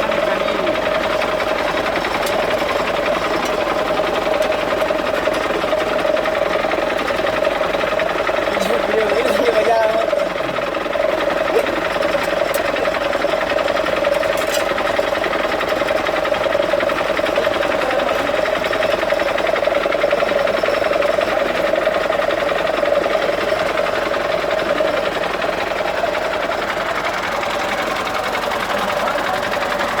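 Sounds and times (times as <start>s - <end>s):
car engine clattering: 0.0s - 30.0s.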